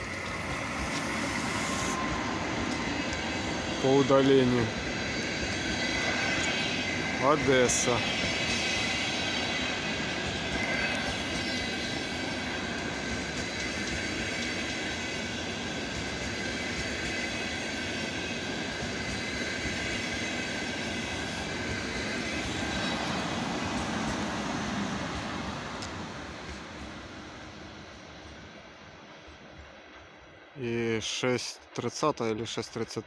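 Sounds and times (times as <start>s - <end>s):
train wheels rolling on rails: 0.0s - 31.5s.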